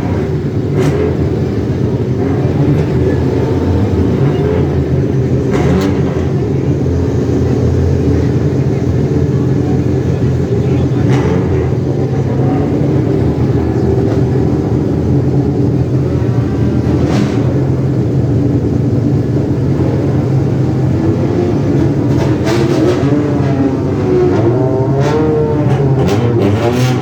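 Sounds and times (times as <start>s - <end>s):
engine revving: 0.0s - 27.0s
sports car engines rumbling: 0.0s - 27.0s.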